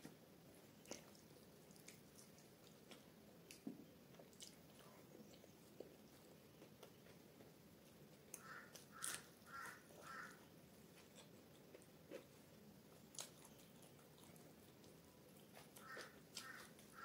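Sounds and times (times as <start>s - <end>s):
chewing with wet mouth clicks: 0.8s - 9.4s, 10.9s - 17.0s.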